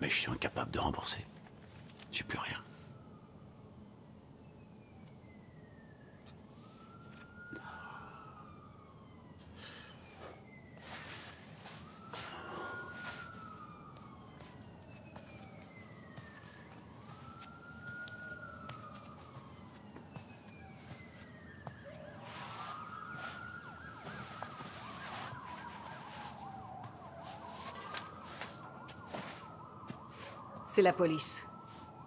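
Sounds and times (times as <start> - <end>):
faint police sirens wailing: 0.0 - 32.0.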